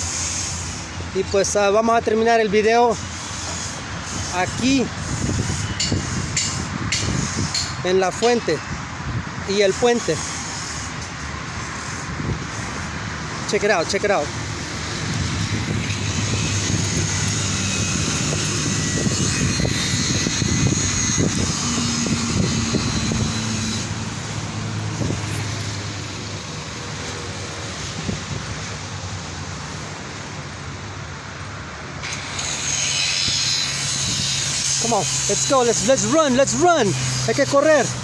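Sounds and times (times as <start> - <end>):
road traffic rumble: 0.0 - 38.0.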